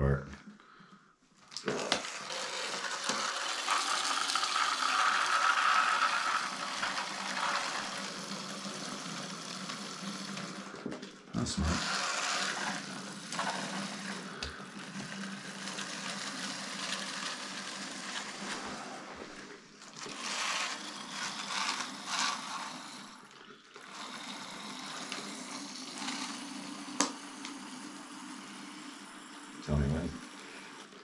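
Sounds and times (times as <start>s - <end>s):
water rushing through hose: 1.6s - 27.7s.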